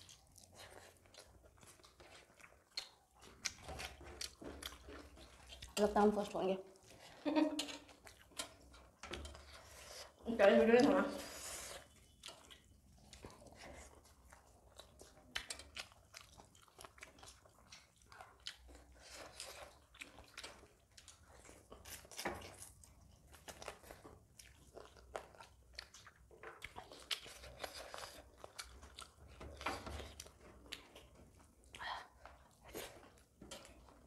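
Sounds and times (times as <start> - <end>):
chewing and mouth sounds: 0.0 - 34.0.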